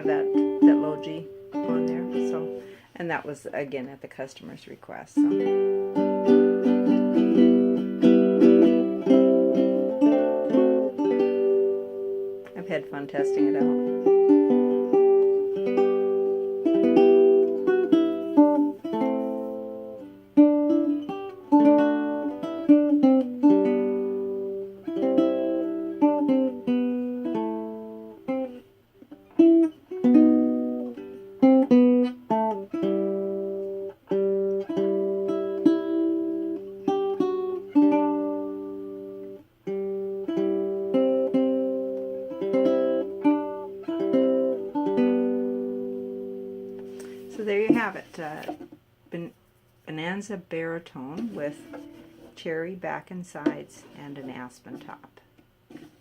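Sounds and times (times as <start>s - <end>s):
baritone ukulele chords: 0.0s - 2.8s, 5.2s - 48.7s.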